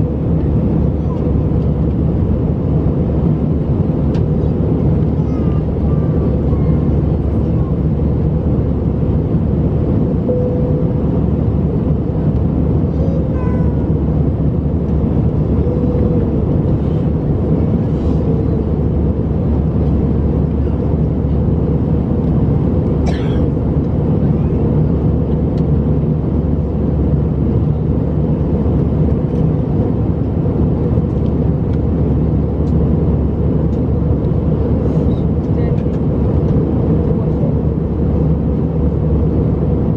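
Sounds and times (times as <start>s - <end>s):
aircraft cabin engine roar: 0.0s - 39.9s.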